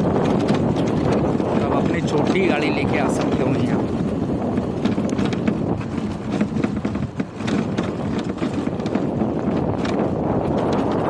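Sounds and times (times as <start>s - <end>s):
vehicle engine and road noise: 0.0s - 11.0s
wind buffeting microphone: 0.0s - 11.0s.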